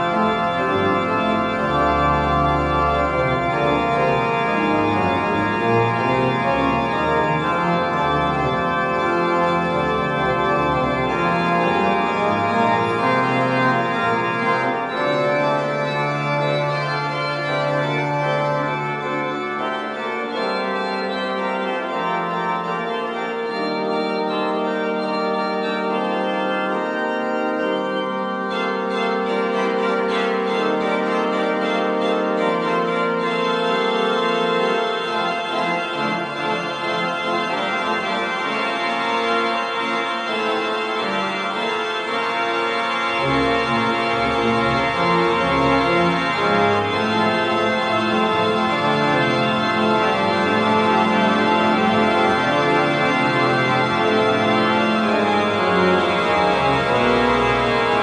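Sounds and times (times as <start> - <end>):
deep organ pedal bass: 0.0 - 58.0
pipe organ chords: 0.0 - 58.0.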